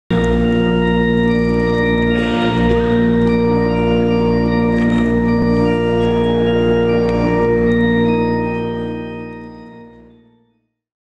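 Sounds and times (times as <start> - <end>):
sustained organ chord: 0.1 - 10.6.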